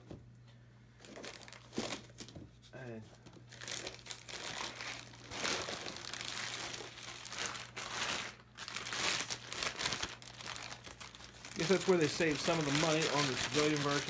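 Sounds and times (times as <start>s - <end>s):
plastic bag crinkling: 1.0s - 2.2s, 3.5s - 14.0s.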